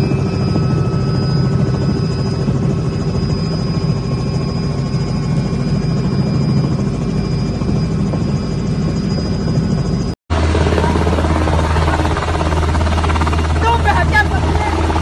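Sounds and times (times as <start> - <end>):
helicopter rotor chop and whine: 0.0 - 15.0.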